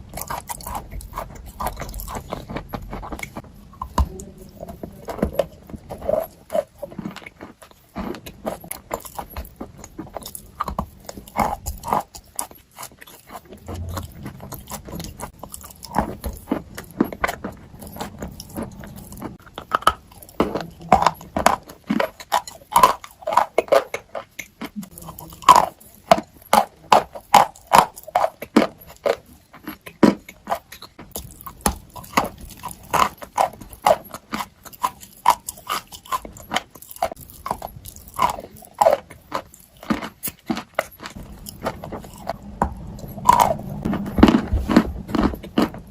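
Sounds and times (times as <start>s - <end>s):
crisp crunching and chewing: 0.0s - 45.9s.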